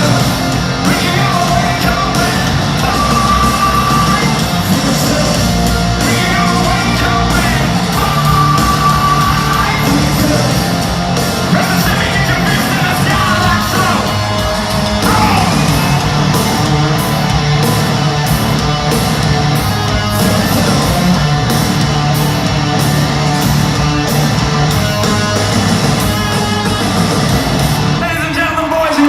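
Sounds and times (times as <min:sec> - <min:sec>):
steady drum beat: 0:00.0 - 0:28.7
distorted electric guitars: 0:00.0 - 0:29.0.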